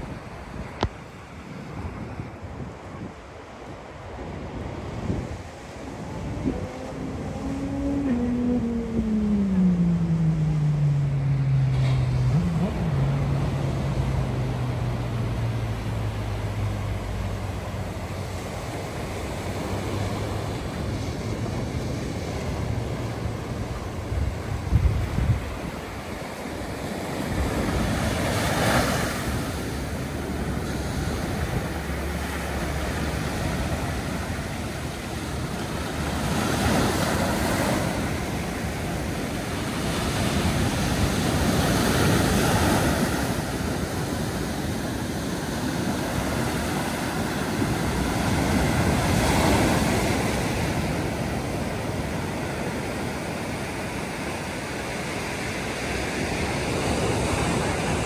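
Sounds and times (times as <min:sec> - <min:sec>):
sea surf breaking: 0:00.0 - 0:58.0
wind rumbling on microphone: 0:00.0 - 0:58.0.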